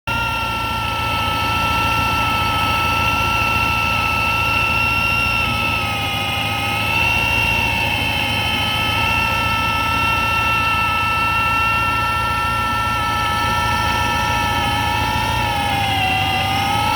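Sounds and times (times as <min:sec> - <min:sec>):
car engine with high whine: 0:00.0 - 0:16.9.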